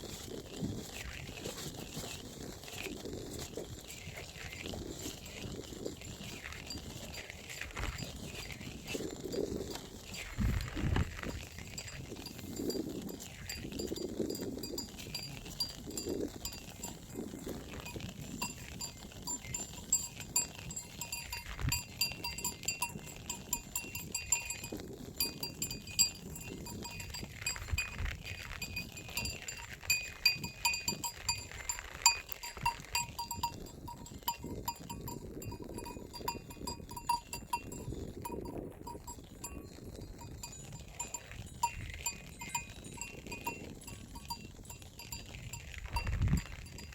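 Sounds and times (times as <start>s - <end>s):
sheep bells jingling: 0.9s - 46.9s.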